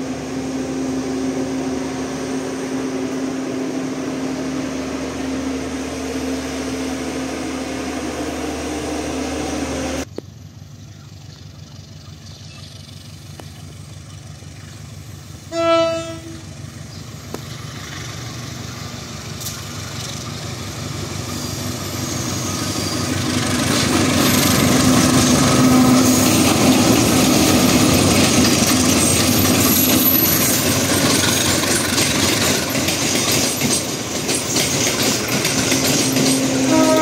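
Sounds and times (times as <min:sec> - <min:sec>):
train rumbling past: 0:00.0 - 0:37.0.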